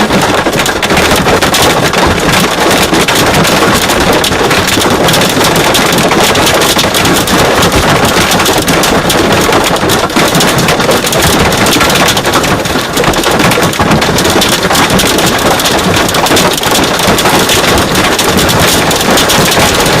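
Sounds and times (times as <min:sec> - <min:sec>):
hail and rain pelting a car: 0:00.0 - 0:20.0.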